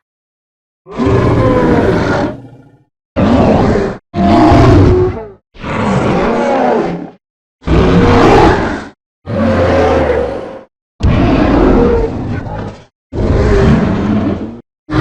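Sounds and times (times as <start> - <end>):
deep creature growls: 0.9 - 15.0.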